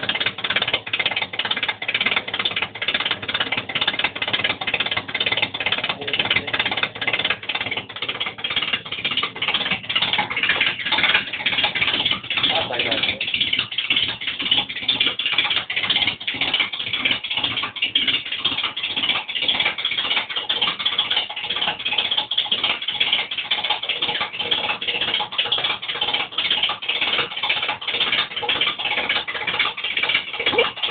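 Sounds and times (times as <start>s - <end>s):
car rapid ticking rattle: 0.0s - 30.9s.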